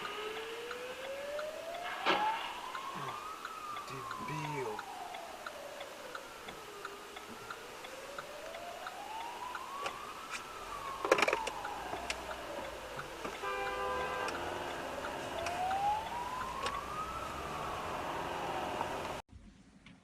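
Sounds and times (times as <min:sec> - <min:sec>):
siren wailing: 0:00.0 - 0:19.2.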